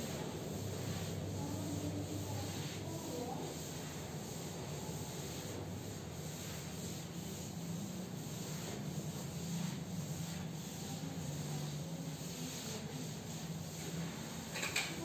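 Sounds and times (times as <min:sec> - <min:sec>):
duster wiping chalkboard: 0:00.0 - 0:15.0.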